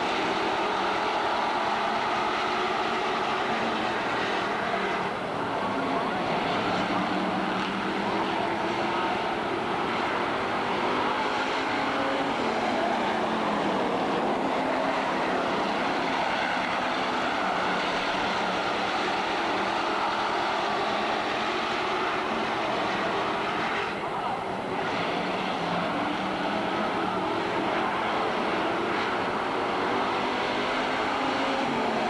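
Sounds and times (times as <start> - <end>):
race car engines passing: 0.0 - 32.0.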